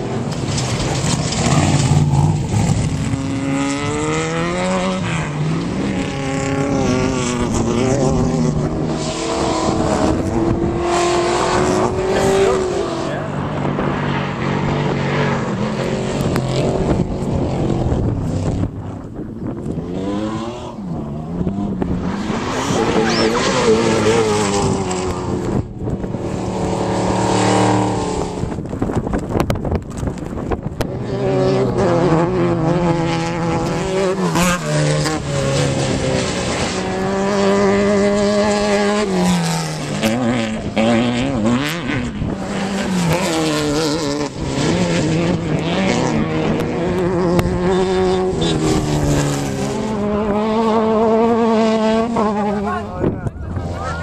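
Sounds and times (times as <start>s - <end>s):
off-road vehicle engines revving: 0.0s - 54.0s.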